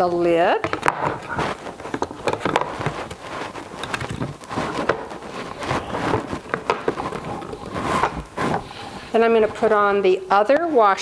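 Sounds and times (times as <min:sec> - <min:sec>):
hands scraping plastic lid: 0:00.6 - 0:10.0.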